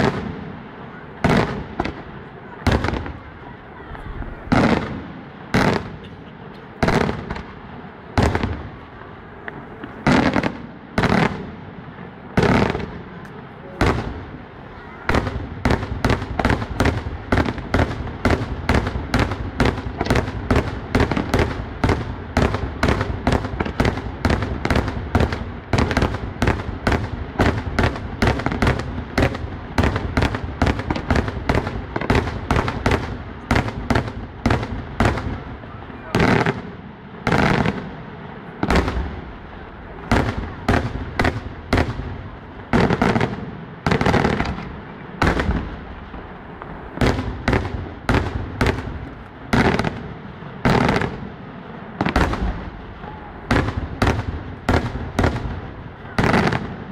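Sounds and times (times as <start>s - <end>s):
fireworks banging: 0.0s - 56.9s.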